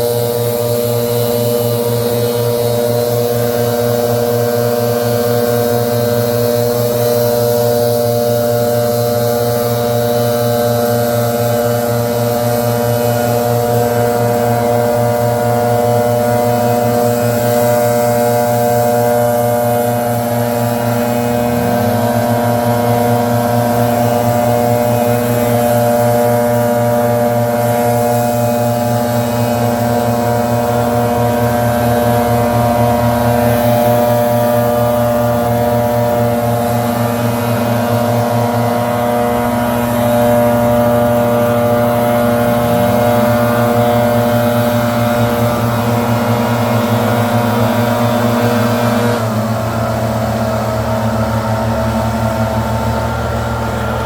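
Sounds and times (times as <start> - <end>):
leaf blower running: 0.0 - 54.0.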